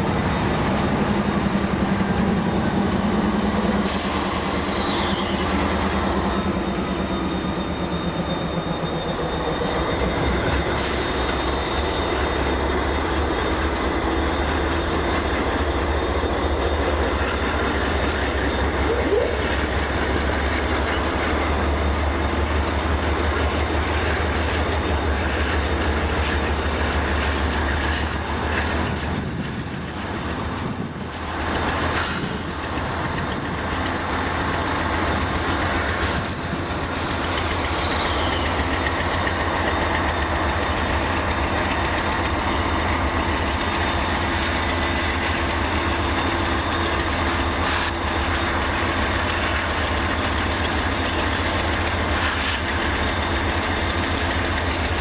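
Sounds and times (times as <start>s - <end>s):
train wheels clicking over rails: 0.0s - 18.8s, 19.4s - 55.0s
diesel locomotives droning: 0.0s - 55.0s.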